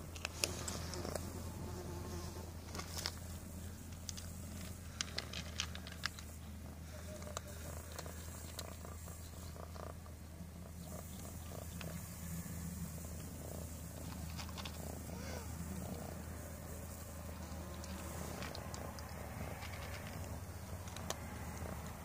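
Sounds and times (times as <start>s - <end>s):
cats chewing and crunching food: 0.0s - 22.0s
cat purring: 3.2s - 22.0s.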